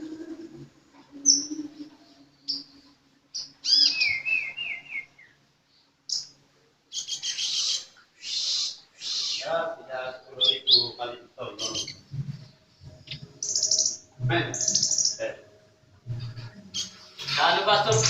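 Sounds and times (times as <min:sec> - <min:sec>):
sunbird singing: 0:00.0 - 0:15.6, 0:16.3 - 0:17.1.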